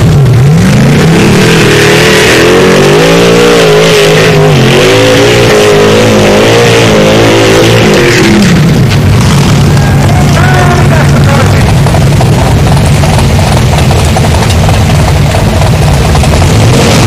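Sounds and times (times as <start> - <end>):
buggy engine revving hard: 0.0 - 17.0.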